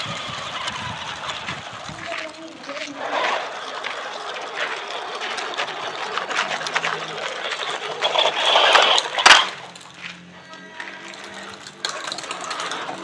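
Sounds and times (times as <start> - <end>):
electric motor whining: 0.0 - 13.0
tyres crunching over gravel: 0.0 - 13.0.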